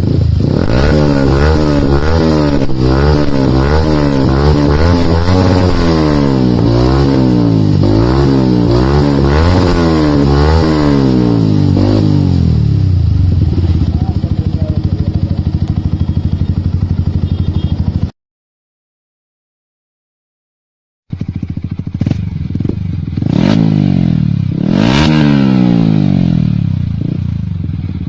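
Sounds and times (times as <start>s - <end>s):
motorcycle engine revving and idling: 0.0s - 18.1s, 21.1s - 28.0s.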